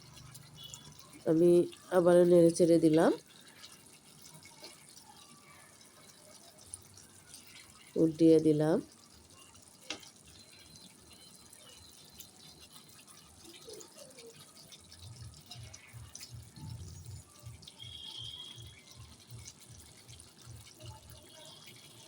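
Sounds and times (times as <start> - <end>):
gravy bubbling: 0.0 - 22.0
gravy sizzling in a pan: 0.0 - 22.0.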